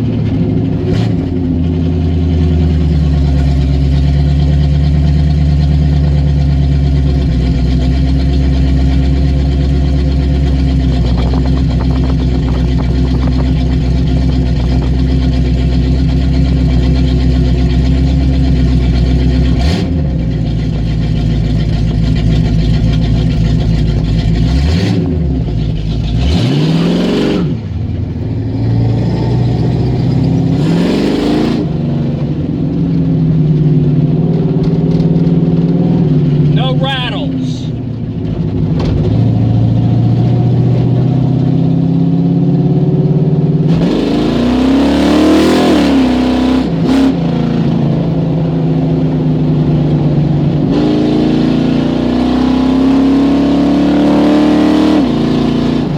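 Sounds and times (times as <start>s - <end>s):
car engine idling and revving: 0.0s - 55.9s.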